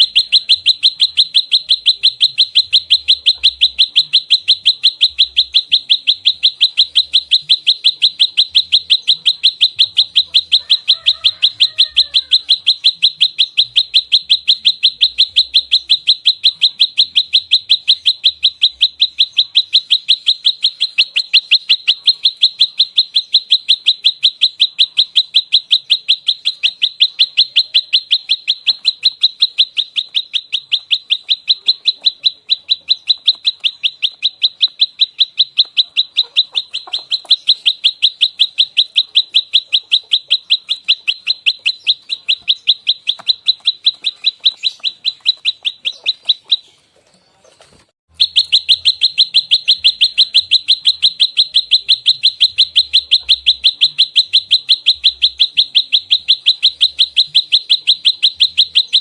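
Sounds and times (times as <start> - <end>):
faint lower bird calls: 0.0 - 59.0
high bird chirps repeated rapidly: 0.0 - 59.0.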